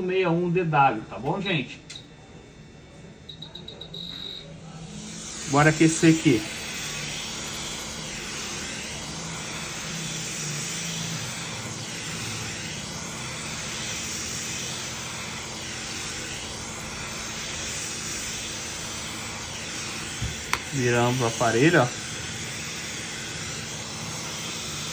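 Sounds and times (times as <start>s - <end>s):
hot air blower rushing: 4.0s - 24.9s.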